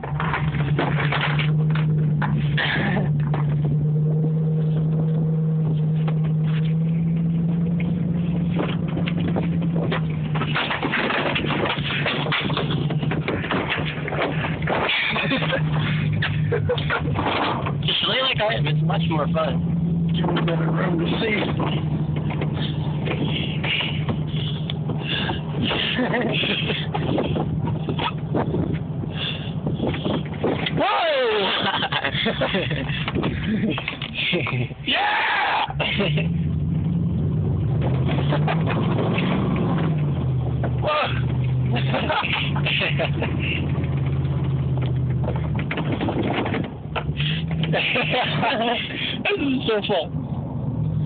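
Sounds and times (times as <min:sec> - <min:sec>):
pickup engine running: 0:00.0 - 0:51.0.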